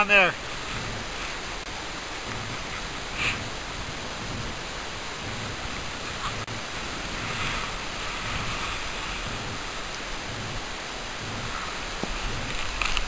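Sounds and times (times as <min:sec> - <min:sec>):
snowboard carving through snow: 0:00.0 - 0:13.0
steady rushing noise: 0:00.0 - 0:13.0.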